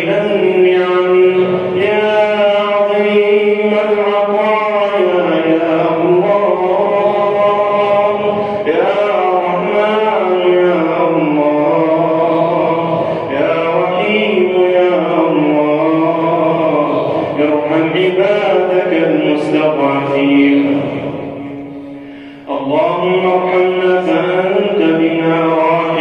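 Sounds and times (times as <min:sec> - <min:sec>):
man chanting: 0:00.0 - 0:26.0.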